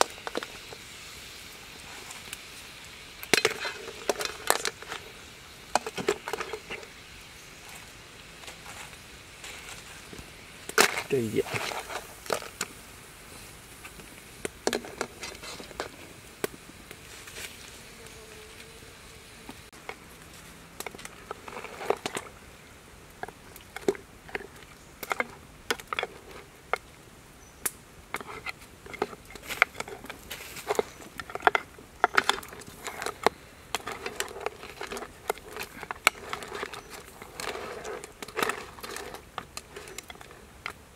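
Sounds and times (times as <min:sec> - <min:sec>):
faint steady background noise: 0:00.0 - 0:40.9.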